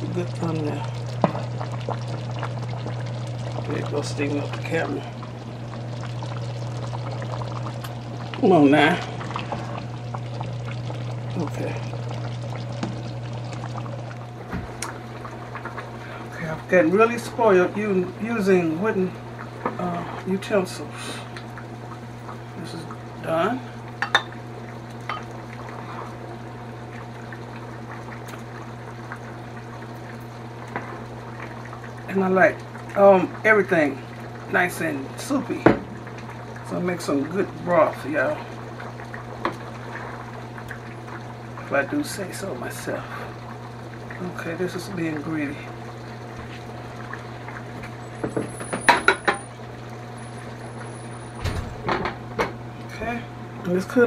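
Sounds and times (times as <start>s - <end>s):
steady low hum: 0.0s - 48.2s
liquid pouring and dribbling: 0.0s - 54.0s.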